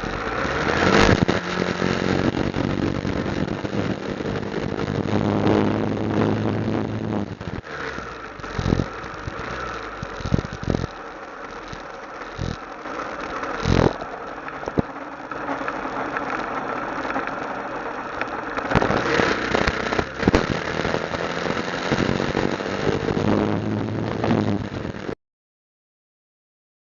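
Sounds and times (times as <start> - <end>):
motorcycle engine at low revs: 0.0 - 25.2.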